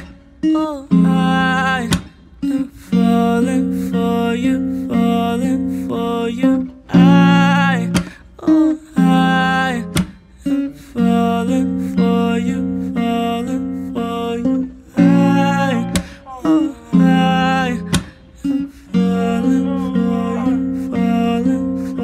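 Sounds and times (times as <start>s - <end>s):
strummed guitar chords: 0.0s - 22.0s.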